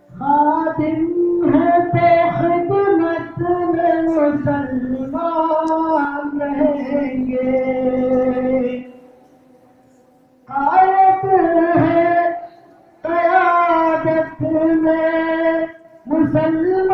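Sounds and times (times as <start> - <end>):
person singing held gliding notes: 0.0 - 16.9.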